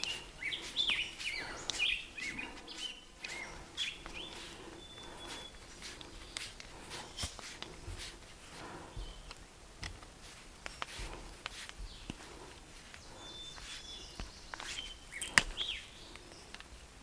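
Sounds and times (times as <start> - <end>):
footsteps and handling rustling: 0.0 - 17.0.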